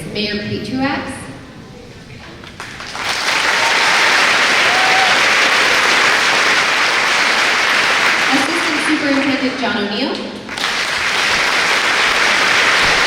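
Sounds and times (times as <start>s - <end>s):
large audience applauding: 2.3s - 13.0s.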